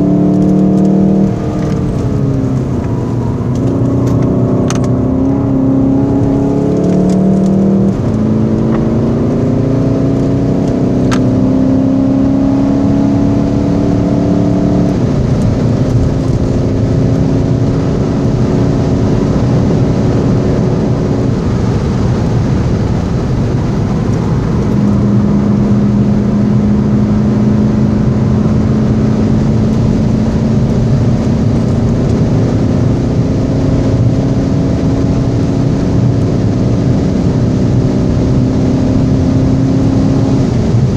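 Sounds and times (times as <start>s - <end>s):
car engine accelerating: 0.0s - 40.9s
tyre and wind noise: 0.0s - 40.9s.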